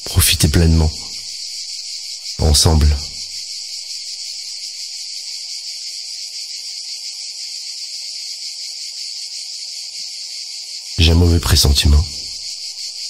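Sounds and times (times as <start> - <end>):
insect chorus buzzing: 0.0 - 13.0.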